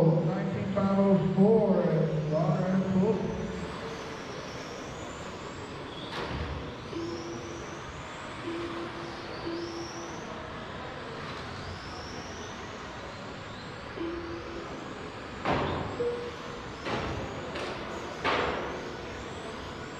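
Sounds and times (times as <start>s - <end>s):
rc car motors whining: 0.0s - 19.9s.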